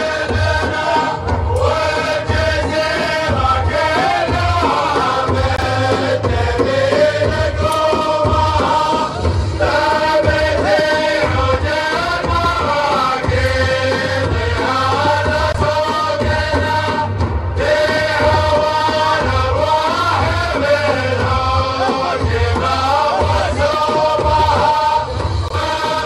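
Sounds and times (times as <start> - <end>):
pulsing low beat: 0.0 - 26.0.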